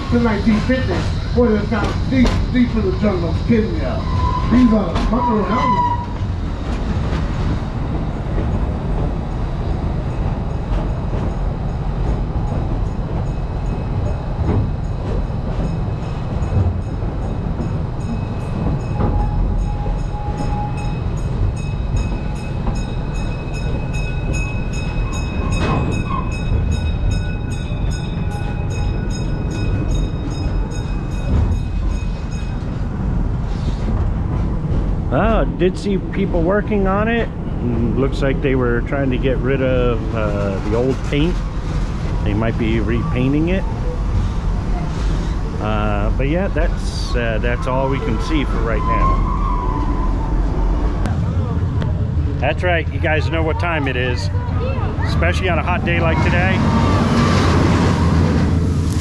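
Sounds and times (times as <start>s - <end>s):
train cars rumbling on track: 0.0s - 59.0s.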